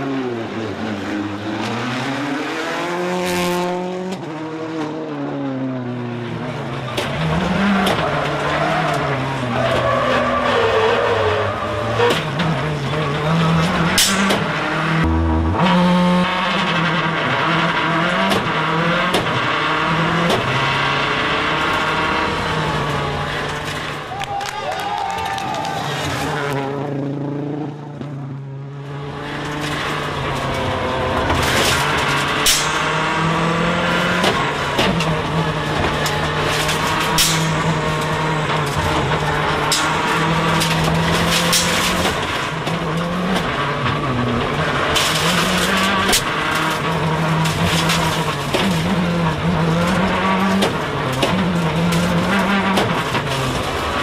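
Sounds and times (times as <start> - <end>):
rally car engine at speed: 0.0 - 54.0.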